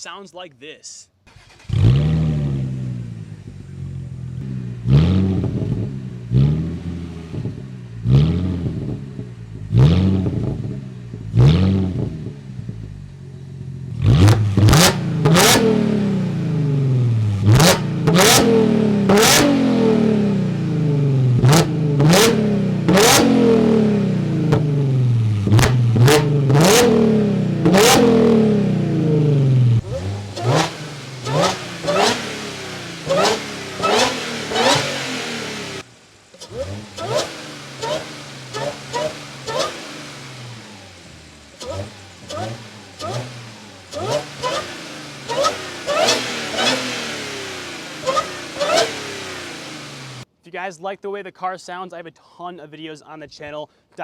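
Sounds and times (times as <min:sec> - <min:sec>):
exhaust cracks: 0:01.2 - 0:50.3
car engine revving: 0:01.3 - 0:50.3.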